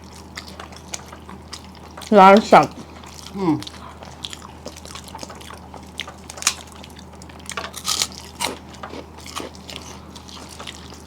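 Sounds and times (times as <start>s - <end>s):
chewing crunches: 0.0s - 11.0s.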